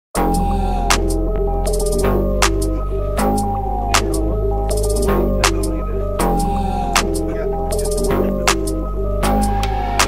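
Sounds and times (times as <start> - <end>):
background music with chords: 0.2 - 10.0.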